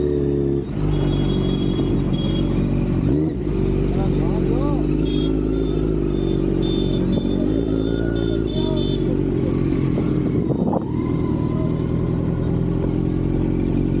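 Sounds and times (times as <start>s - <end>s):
motorcycle engine idling: 0.7s - 14.0s.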